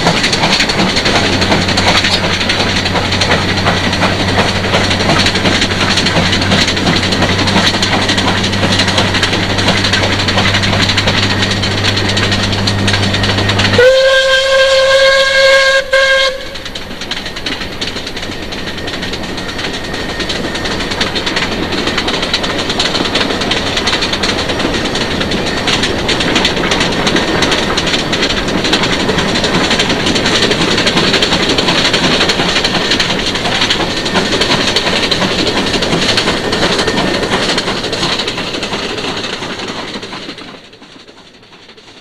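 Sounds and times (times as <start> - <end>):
steam locomotive running: 0.0 - 42.0
wheel clatter: 0.0 - 42.0.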